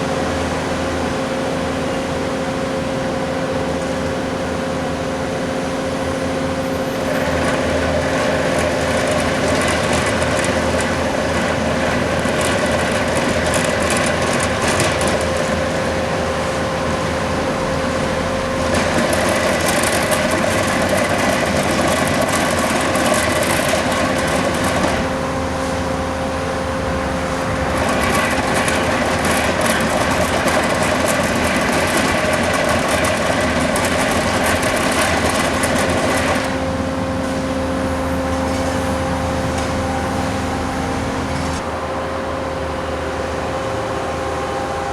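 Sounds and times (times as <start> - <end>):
machine drone: 0.0 - 44.9
rough grinding noise: 6.5 - 44.9.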